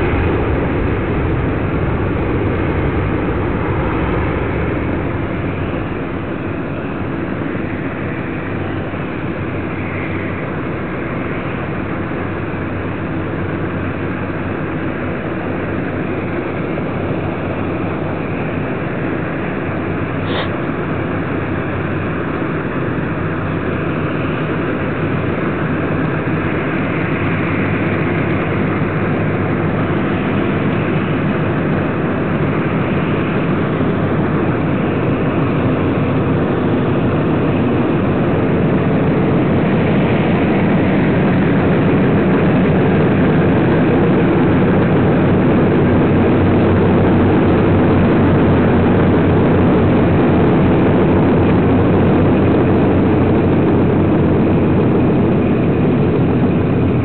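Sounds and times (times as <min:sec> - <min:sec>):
aircraft radial engines running: 0:00.0 - 0:57.0.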